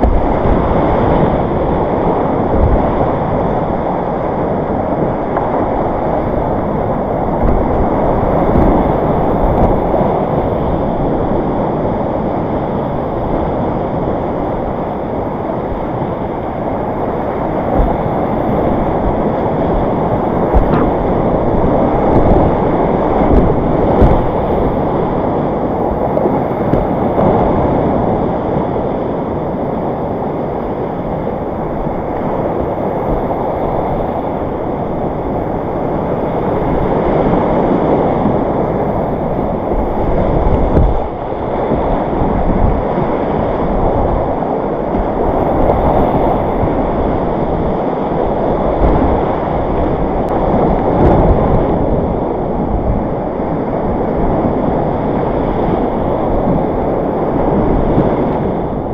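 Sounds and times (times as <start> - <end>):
whitewater rapids rushing: 0.0 - 58.9.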